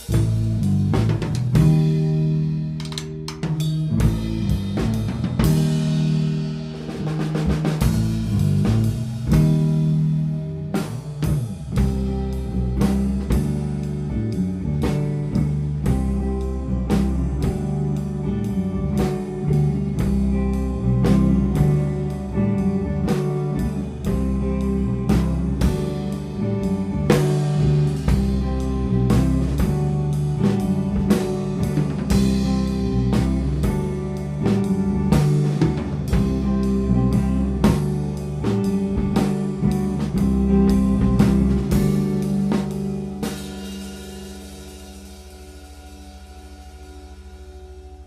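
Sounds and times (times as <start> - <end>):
bass guitar: 0.0 - 48.0
drum kit: 0.0 - 48.0
electric guitar: 0.0 - 48.0.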